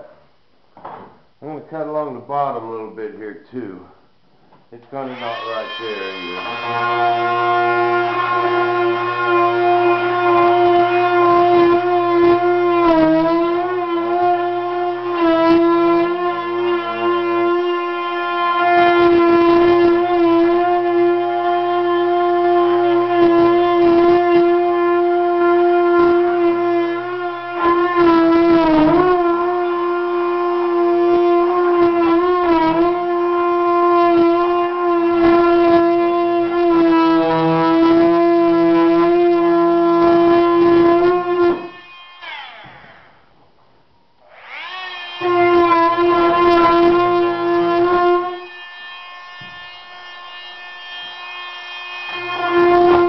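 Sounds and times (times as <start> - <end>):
rotary cutting tool whining: 5.0 - 43.3, 44.2 - 53.0.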